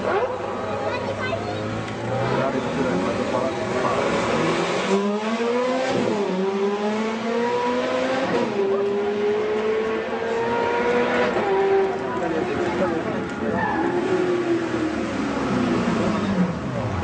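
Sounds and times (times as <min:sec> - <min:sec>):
car engine accelerating through gears: 0:01.6 - 0:17.0.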